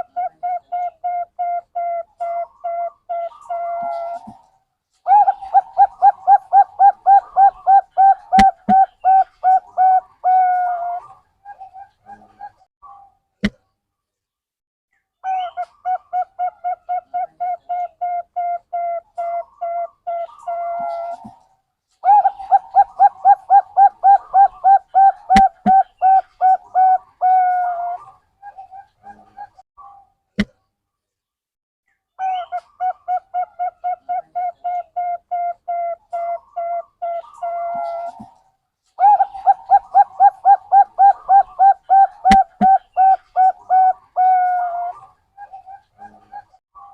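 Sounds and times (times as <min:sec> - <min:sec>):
dove cooing: 0:00.0 - 0:04.4, 0:05.1 - 0:12.6, 0:15.6 - 0:21.4, 0:22.0 - 0:29.6, 0:32.4 - 0:38.4, 0:39.0 - 0:46.9.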